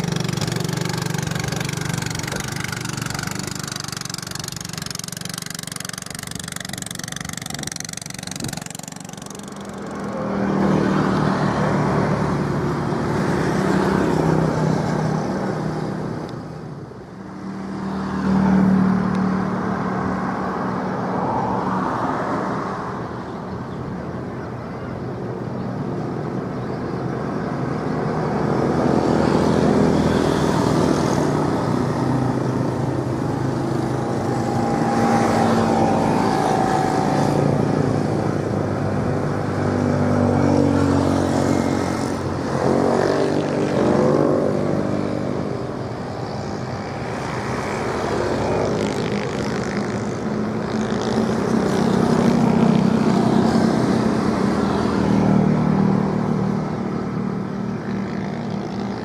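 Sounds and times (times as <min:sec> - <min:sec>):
engines running: 0:00.0 - 0:17.9, 0:26.1 - 0:59.0.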